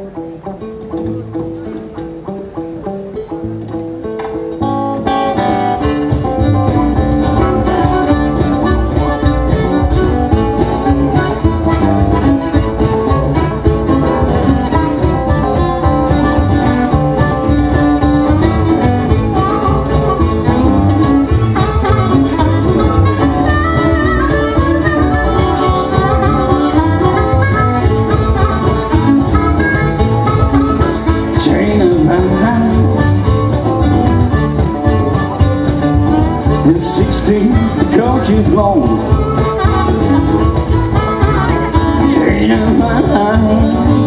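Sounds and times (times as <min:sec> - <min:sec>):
acoustic guitar: 0:00.0 - 0:44.0
cajon rhythm: 0:00.0 - 0:44.0
upright double bass: 0:00.0 - 0:44.0
violin: 0:00.0 - 0:44.0
harmonica: 0:05.0 - 0:44.0.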